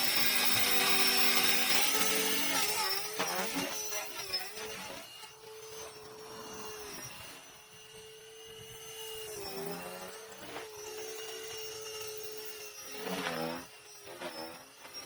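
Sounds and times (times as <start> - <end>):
rc helicopter motor whine: 0.0 - 15.0.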